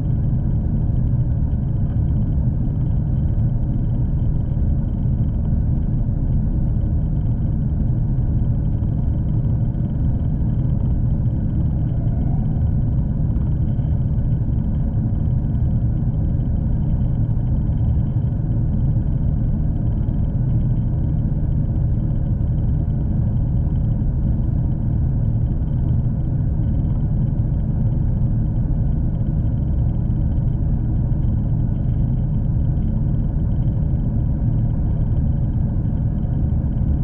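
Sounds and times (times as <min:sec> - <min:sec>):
train rumble from inside carriage: 0:00.0 - 0:37.0.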